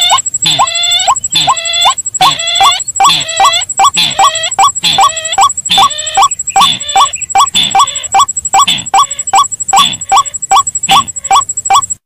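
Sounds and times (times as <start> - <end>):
harsh bird calls: 0.0 - 11.9.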